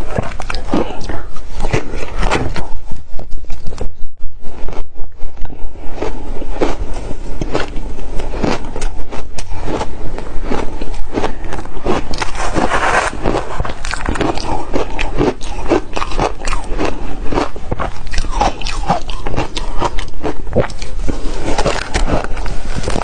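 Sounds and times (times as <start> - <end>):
ice being crunched and chewed: 0.0 - 2.6, 4.6 - 23.0.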